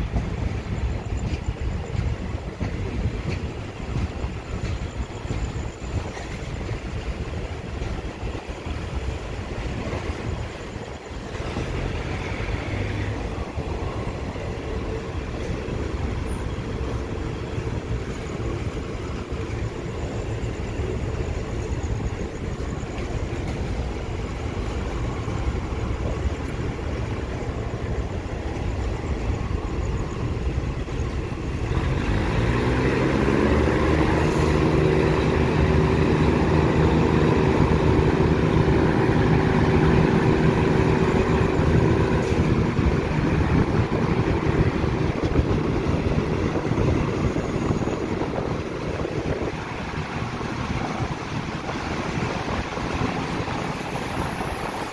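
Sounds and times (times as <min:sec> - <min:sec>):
diesel engine drone: 0:00.0 - 0:54.9
train wheels rumbling on rails: 0:00.0 - 0:54.9.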